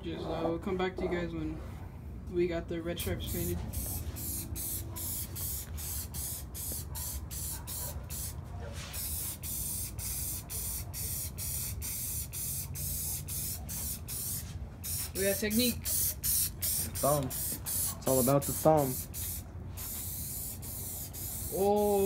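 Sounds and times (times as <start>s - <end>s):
aerosol spray can hissing: 3.2s - 8.4s, 9.0s - 22.0s.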